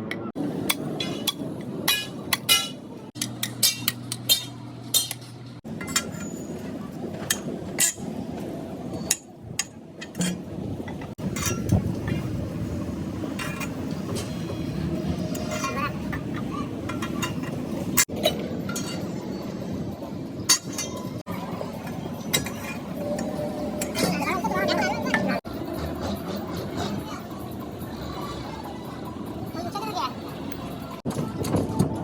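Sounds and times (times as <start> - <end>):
workshop noise: 0.0 - 32.0.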